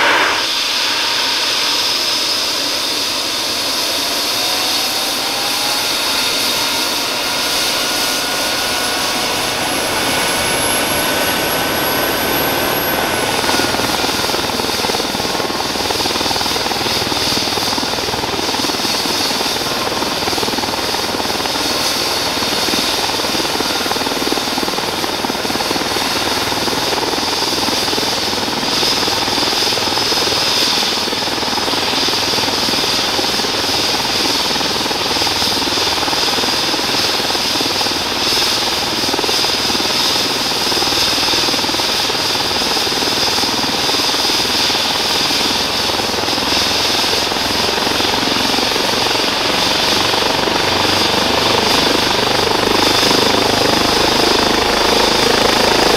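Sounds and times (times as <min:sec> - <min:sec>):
helicopter rotor: 0:00.0 - 0:55.9
helicopter turbine whine: 0:00.0 - 0:55.9.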